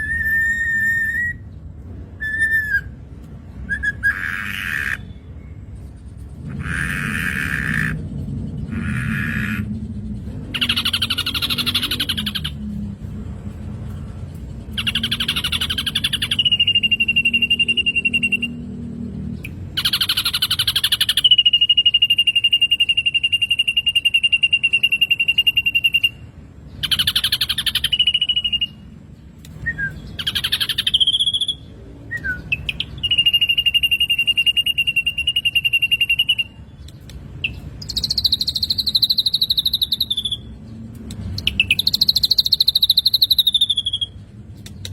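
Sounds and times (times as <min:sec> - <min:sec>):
low background hum: 0:00.0 - 0:44.9
bird buzzy chattering: 0:03.8 - 0:44.9.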